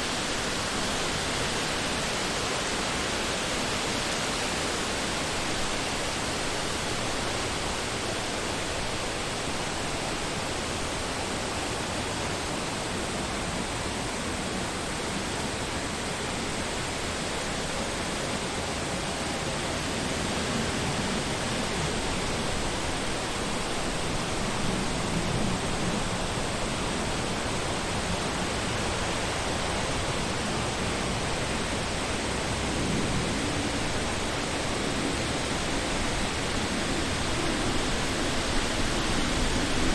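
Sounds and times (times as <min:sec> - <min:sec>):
wind blowing through trees: 0:00.0 - 0:39.9.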